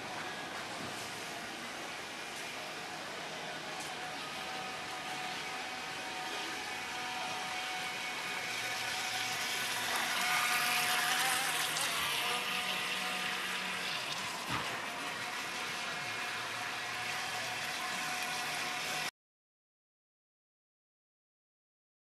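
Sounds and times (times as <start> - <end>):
small boat motor whine: 0.0 - 19.1.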